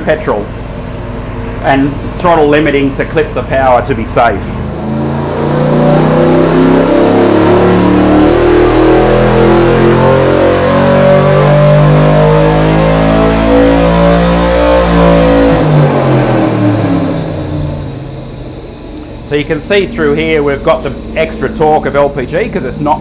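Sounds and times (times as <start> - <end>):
engine running loud under load: 0.0 - 23.0.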